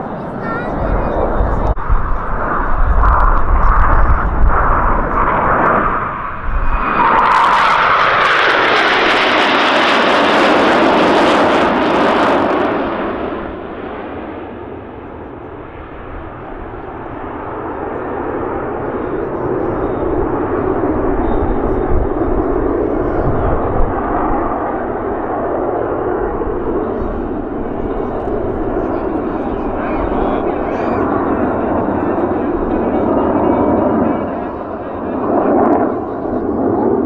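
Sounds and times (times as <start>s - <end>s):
dull jet rumble: 0.0s - 37.0s
jet roar: 0.0s - 37.0s.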